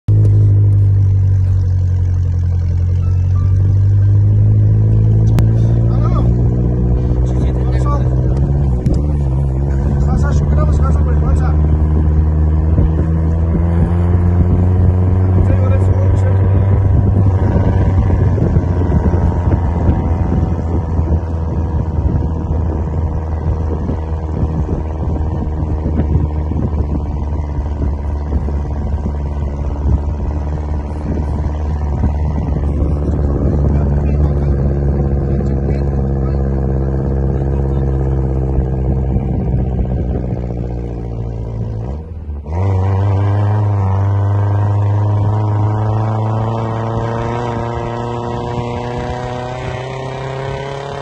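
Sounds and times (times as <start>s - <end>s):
vehicle engine drone: 0.0s - 51.0s.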